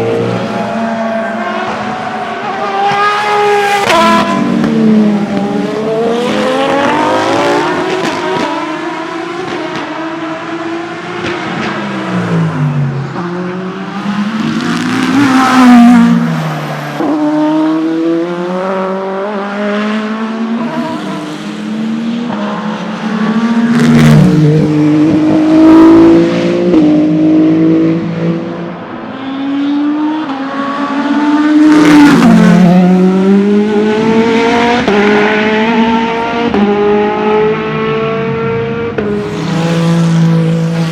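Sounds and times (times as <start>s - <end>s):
racing car engines revving: 0.0s - 40.9s
racing cars passing by: 0.0s - 40.9s.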